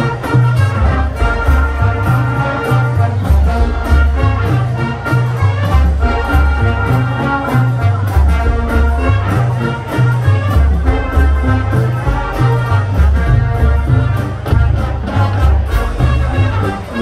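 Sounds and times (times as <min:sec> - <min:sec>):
bass line: 0:00.0 - 0:17.0
marching band brass: 0:00.0 - 0:17.0
steady drum beat: 0:00.0 - 0:17.0.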